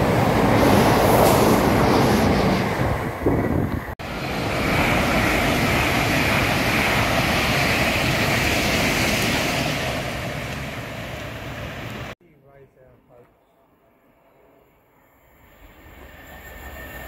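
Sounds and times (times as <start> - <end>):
train passing at speed: 0.0 - 12.2, 13.8 - 17.0.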